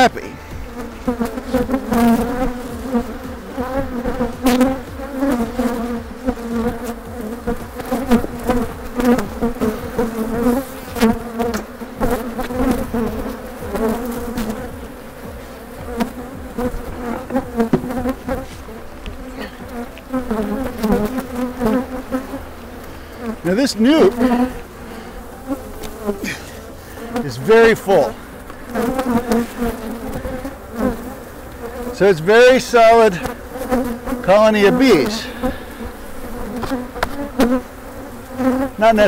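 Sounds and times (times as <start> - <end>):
bees buzzing: 0.0 - 39.0.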